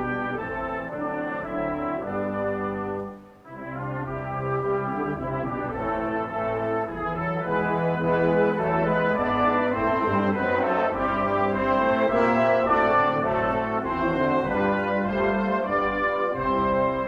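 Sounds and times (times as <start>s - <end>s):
brass ensemble playing held chords: 0.0s - 17.0s.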